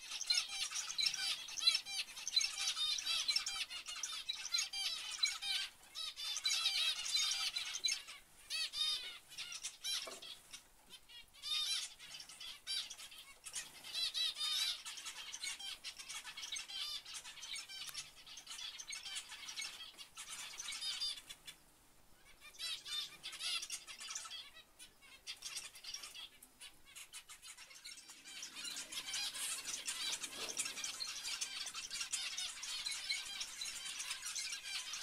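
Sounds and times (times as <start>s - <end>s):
finches chirping: 0.0s - 35.0s.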